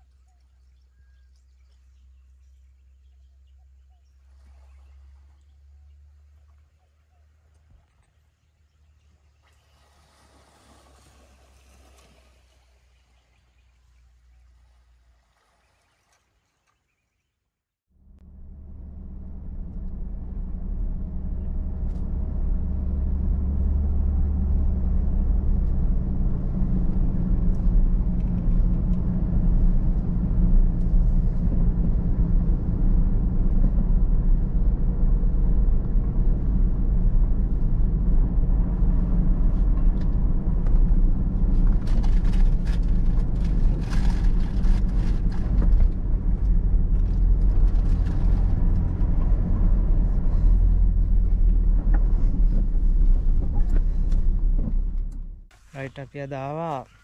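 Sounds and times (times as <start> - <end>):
vehicle engine and road drone: 0.0 - 15.1, 17.9 - 57.0.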